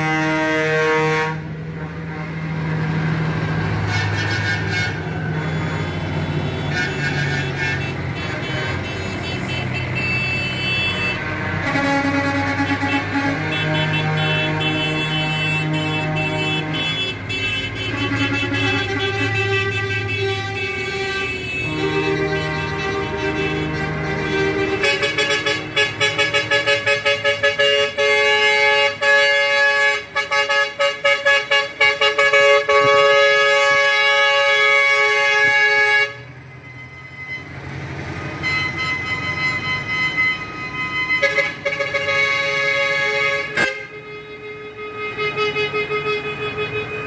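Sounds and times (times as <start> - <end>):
multi-tone truck horn pulsing: 0.0 - 47.0
vehicle noise: 0.0 - 47.0.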